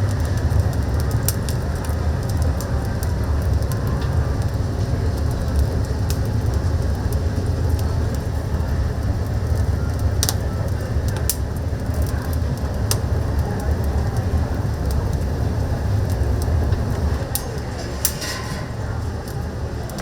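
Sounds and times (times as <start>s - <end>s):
steady low rumble: 0.0s - 20.0s
wood fire crackling and popping: 0.0s - 20.0s.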